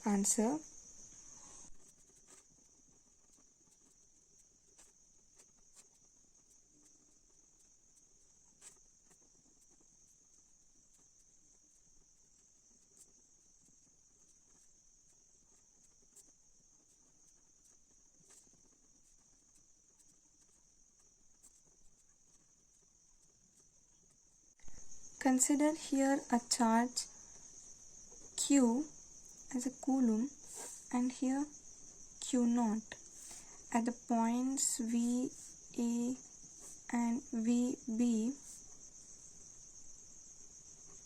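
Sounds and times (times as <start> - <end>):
faint ticks: 0.4 - 41.0.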